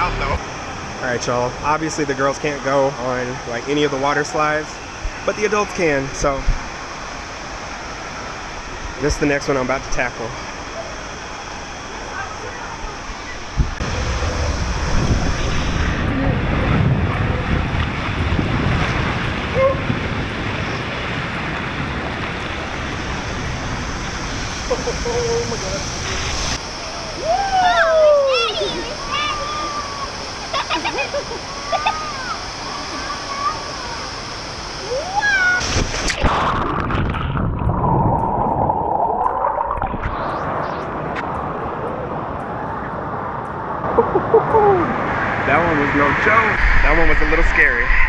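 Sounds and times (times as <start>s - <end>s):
water and air rushing on microphone: 0.0s - 48.0s.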